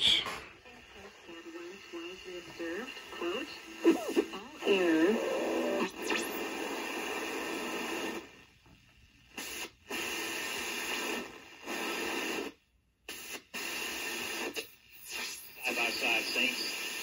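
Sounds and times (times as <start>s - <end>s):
shortwave radio hiss and static: 0.0s - 8.5s, 9.2s - 17.0s.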